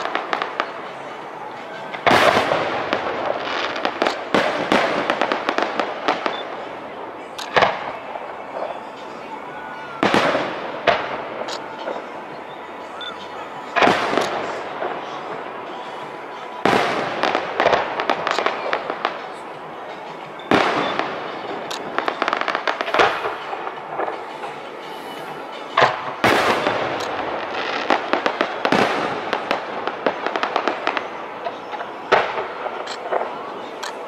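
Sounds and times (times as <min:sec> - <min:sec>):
fireworks shells bursting: 0:00.0 - 0:06.7, 0:13.1 - 0:34.0
fireworks crackling: 0:00.0 - 0:34.0.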